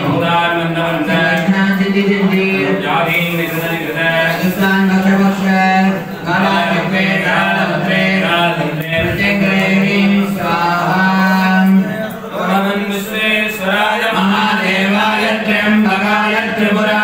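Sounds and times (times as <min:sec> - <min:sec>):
men chanting: 0:00.0 - 0:17.0.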